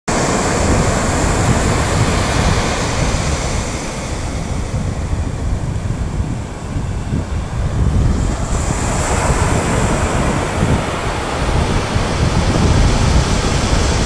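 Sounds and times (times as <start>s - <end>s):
ocean surf washing ashore: 0.1s - 14.0s
wind buffeting microphone: 0.1s - 14.0s.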